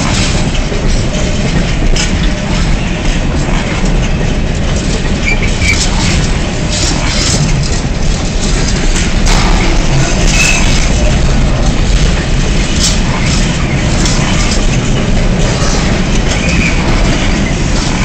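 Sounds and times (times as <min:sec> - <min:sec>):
freight train wheels rumbling on rail: 0:00.0 - 0:18.0
wheels clicking over rail joints: 0:00.0 - 0:18.0.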